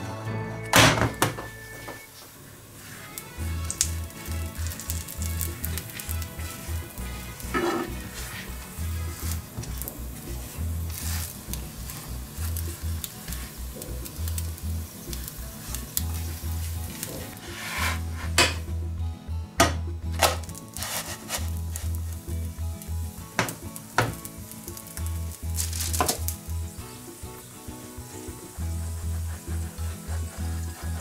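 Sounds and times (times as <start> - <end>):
bread sizzling in butter: 1.6 - 18.7, 20.2 - 31.0.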